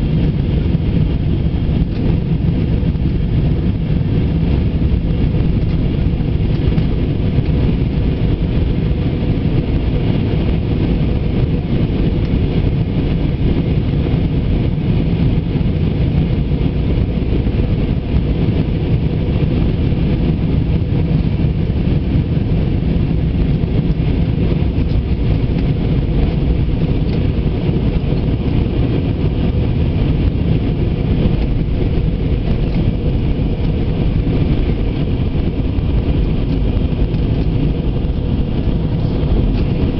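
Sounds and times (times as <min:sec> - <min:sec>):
airflow over fuselage: 0:00.0 - 0:39.9
jet engines in flight: 0:00.0 - 0:39.9.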